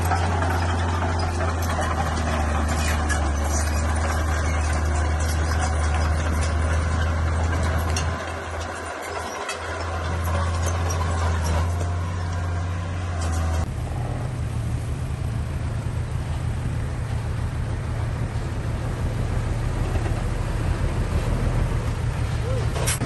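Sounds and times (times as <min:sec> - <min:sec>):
bulldozer diesel engine: 0:00.0 - 0:23.0.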